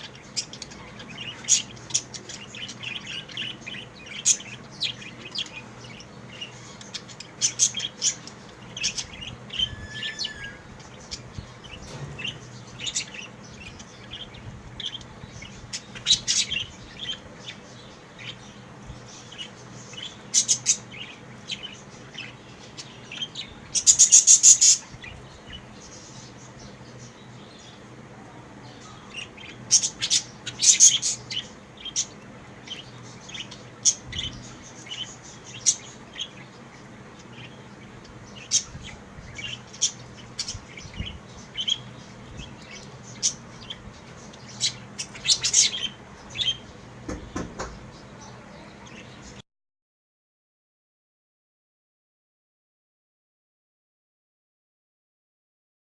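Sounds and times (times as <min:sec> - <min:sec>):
budgerigars chirping: 0:00.0 - 0:27.8, 0:28.7 - 0:49.4.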